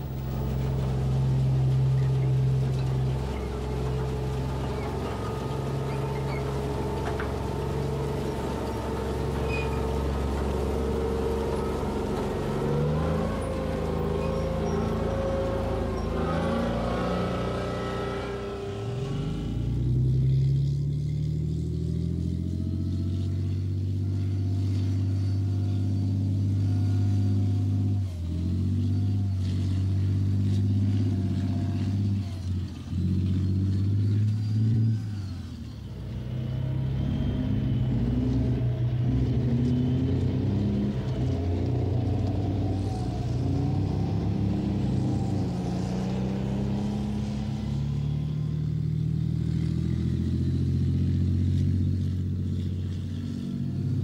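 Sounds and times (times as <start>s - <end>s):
tracked vehicle diesel engines: 0.0s - 54.0s.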